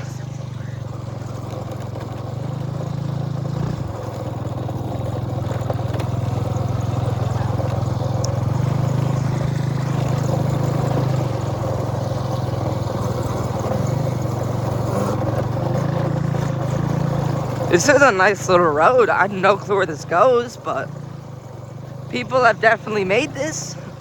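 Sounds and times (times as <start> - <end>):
small motorbike engine running: 0.0 - 24.0
wind: 0.0 - 24.0.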